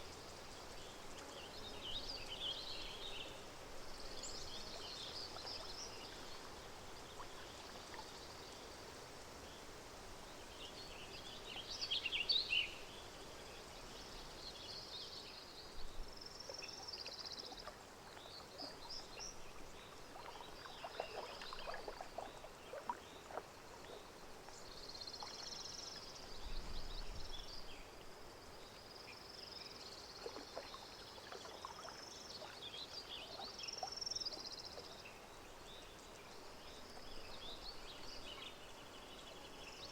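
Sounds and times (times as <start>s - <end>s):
gentle water splashes: 0.0s - 39.8s.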